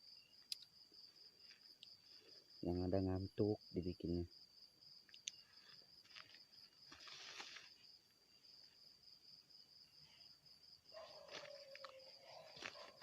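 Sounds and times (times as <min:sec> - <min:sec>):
insect trill: 0:00.0 - 0:13.0.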